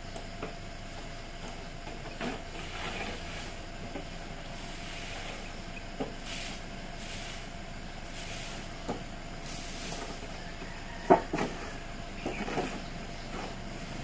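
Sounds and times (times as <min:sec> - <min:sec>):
broom sweeping dry leaves: 0:02.2 - 0:14.0.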